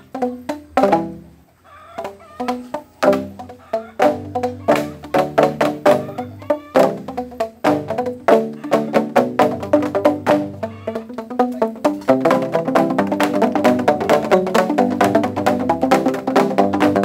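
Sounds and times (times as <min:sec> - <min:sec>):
rhythmic pitched percussion music: 0:00.0 - 0:01.4, 0:02.0 - 0:17.0.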